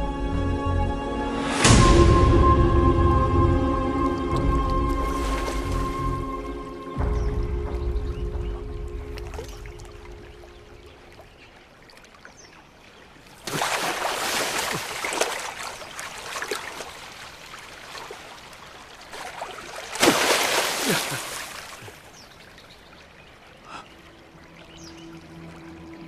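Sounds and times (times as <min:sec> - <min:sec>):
water splashing and rushing: 0:01.0 - 0:26.0.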